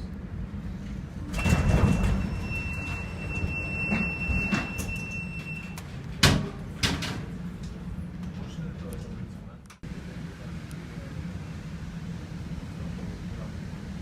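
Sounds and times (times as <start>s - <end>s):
low rumble aboard ship: 0.0s - 14.0s.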